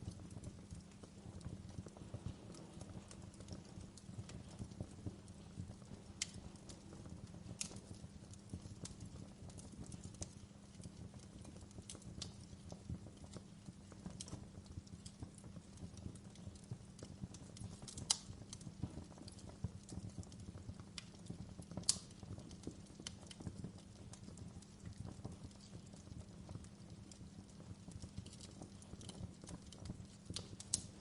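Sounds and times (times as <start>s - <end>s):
low rumble of flames: 0.0s - 31.0s
wood fire crackling and popping: 0.0s - 31.0s.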